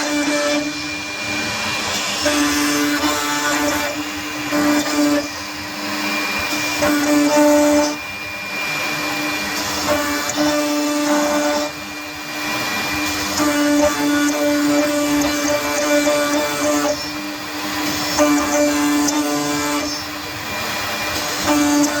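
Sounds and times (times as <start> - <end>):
cnc router motor whine: 0.0 - 22.0.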